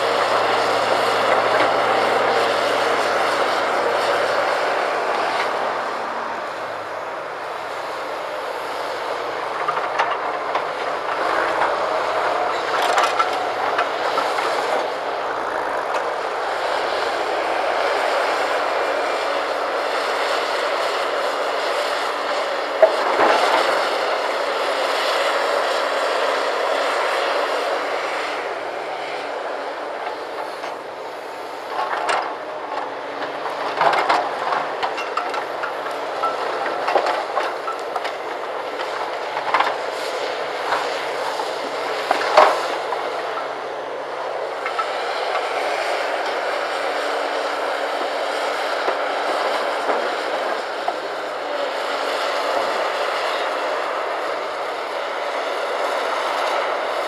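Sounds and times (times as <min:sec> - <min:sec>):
excavator diesel engine working: 0:00.0 - 0:57.0.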